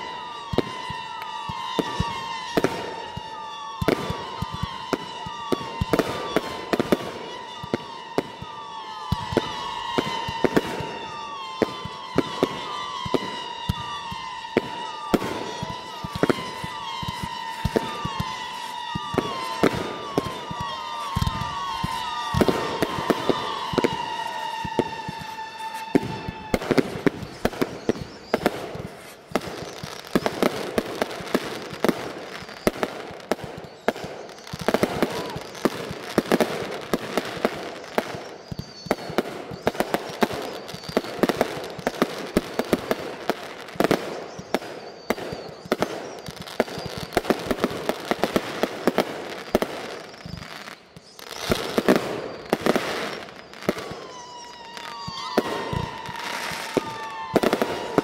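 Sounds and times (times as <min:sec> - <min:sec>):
fireworks bangs and crackling: 0:00.0 - 0:58.0
whistling firework: 0:00.0 - 0:58.0.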